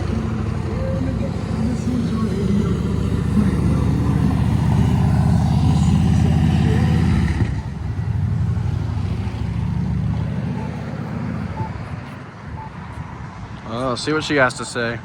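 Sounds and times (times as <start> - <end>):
vehicle engine running: 0.0 - 13.1.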